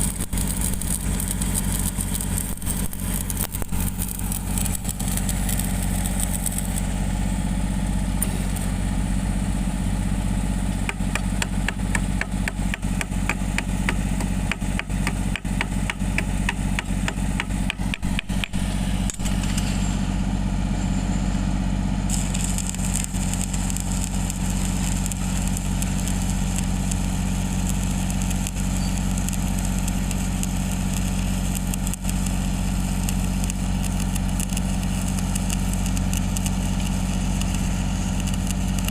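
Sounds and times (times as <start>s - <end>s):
welding crackling: 0.0s - 20.6s, 21.4s - 38.9s
welding machine humming: 0.0s - 38.9s.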